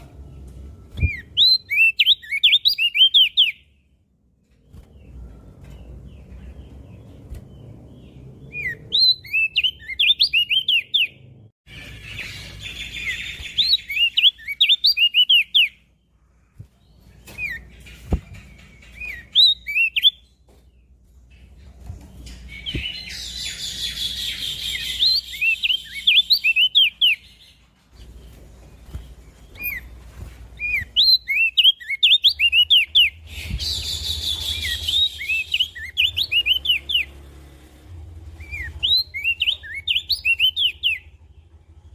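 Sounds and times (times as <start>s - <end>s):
bird singing high sliding chirps: 0.0s - 3.8s, 4.7s - 41.2s.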